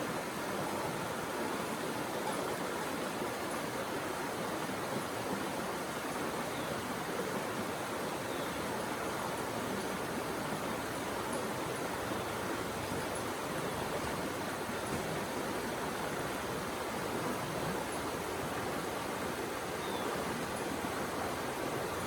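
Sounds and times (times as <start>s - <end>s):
flowing water rushing: 0.0s - 22.0s.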